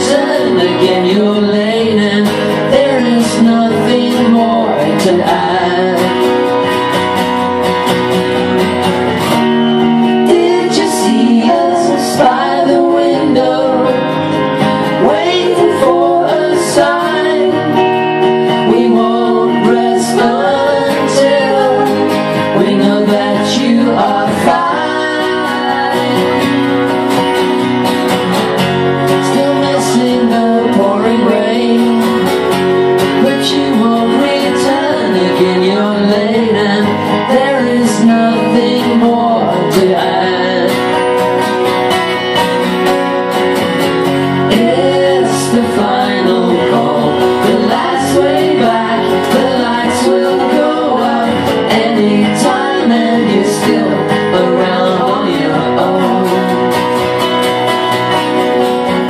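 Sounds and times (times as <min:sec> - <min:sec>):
person singing lead vocal: 0:00.0 - 0:27.8, 0:28.5 - 0:43.2, 0:43.8 - 0:59.0
electric guitar: 0:00.0 - 0:59.0
strummed acoustic guitars: 0:00.0 - 0:59.0.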